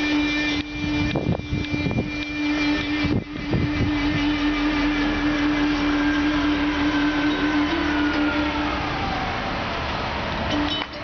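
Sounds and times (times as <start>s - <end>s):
bus engine hum: 0.0s - 11.0s
faint falling whine: 0.0s - 11.0s
road noise: 0.0s - 11.0s.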